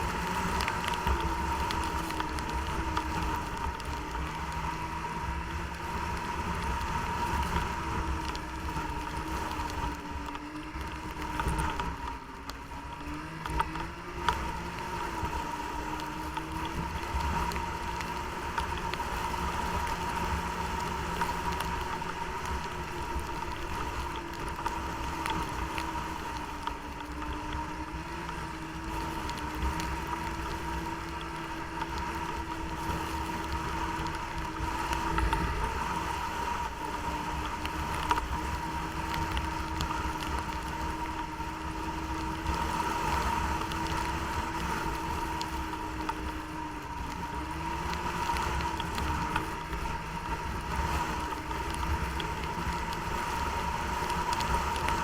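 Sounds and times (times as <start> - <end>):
snowmobile engine running: 0.0 - 55.0
wind noise: 0.0 - 55.0.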